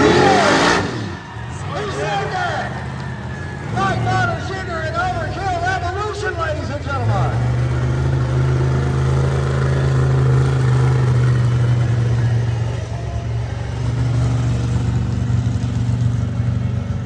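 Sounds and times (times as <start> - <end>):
monster truck engine running: 0.0 - 17.0.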